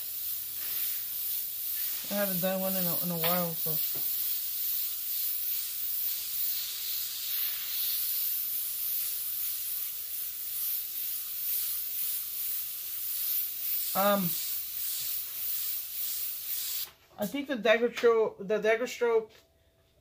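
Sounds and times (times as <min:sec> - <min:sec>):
airbrush hissing: 0:00.0 - 0:17.0.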